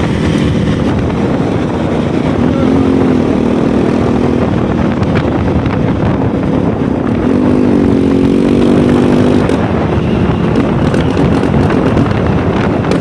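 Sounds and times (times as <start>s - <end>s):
heavy low rumble: 0.0s - 13.0s
motorcycle engine running: 0.0s - 13.0s.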